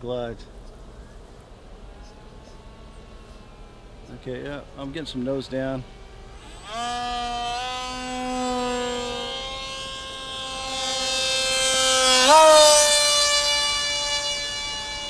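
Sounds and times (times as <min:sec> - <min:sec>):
model plane electric motor whining: 0:00.4 - 0:15.0.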